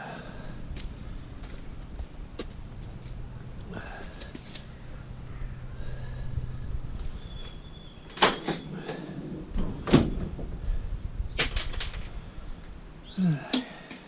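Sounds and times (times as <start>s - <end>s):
low hum: 0.0s - 13.5s.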